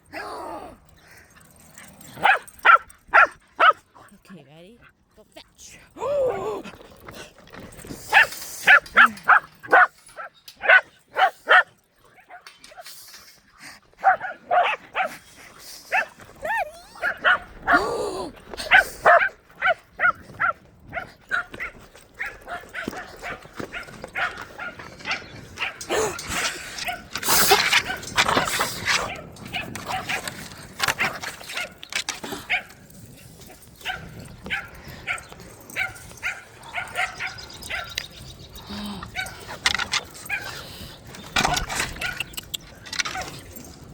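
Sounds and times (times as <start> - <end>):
puppies barking and yipping: 1.2 - 4.2, 7.8 - 12.9, 13.6 - 17.8, 18.6 - 43.9.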